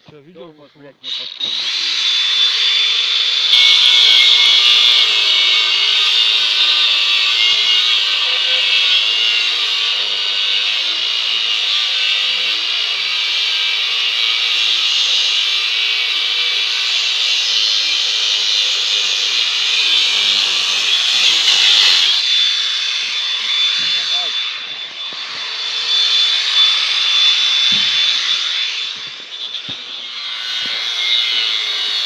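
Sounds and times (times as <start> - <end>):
power tool cutting: 1.0 - 32.0.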